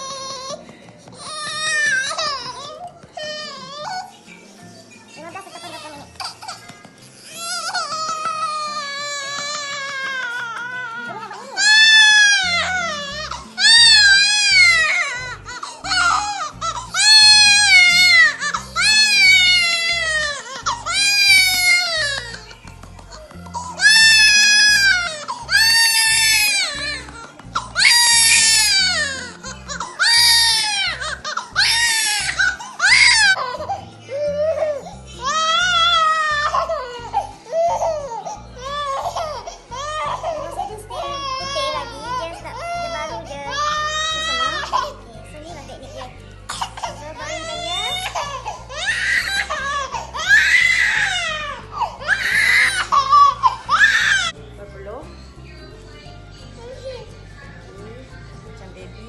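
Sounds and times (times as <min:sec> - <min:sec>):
patting on back: 0:00.0 - 0:55.0.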